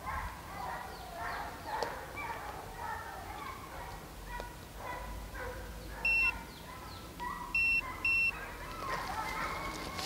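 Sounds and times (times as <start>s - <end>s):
distant hounds baying: 0.0s - 10.0s.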